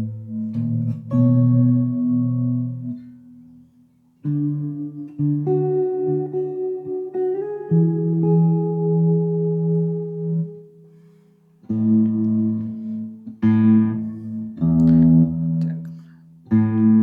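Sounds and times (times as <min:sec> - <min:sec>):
guitar chords ringing: 0:00.0 - 0:17.0.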